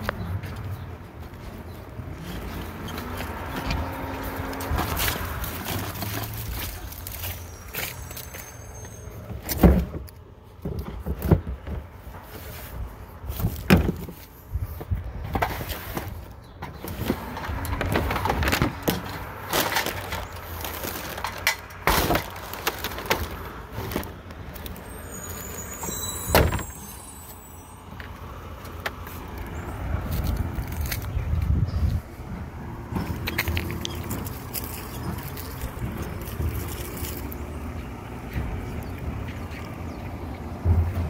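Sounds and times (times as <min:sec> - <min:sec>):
truck engine rumble: 0:00.0 - 0:41.0.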